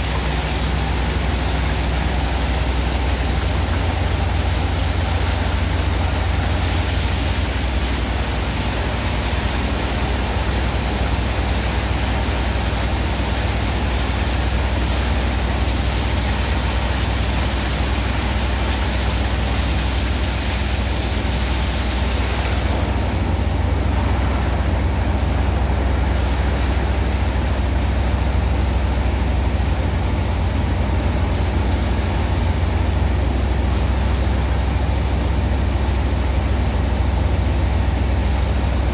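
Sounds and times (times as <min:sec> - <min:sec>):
water jets hissing and splashing: 0:00.0 - 0:38.9.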